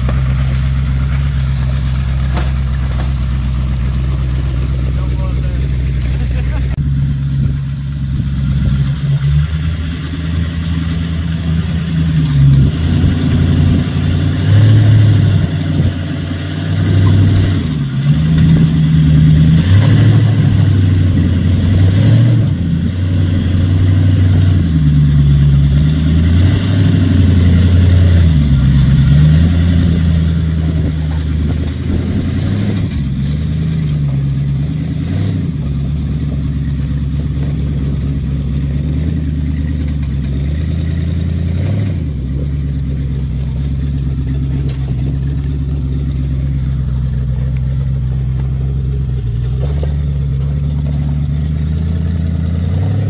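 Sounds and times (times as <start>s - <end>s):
buggy engine revving: 0.0s - 53.0s.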